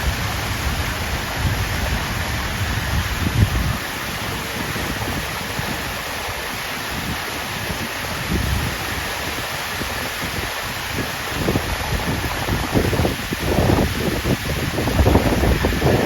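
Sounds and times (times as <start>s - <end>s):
water fountain splashing: 0.0s - 16.0s
wind buffeting microphone: 0.0s - 16.0s.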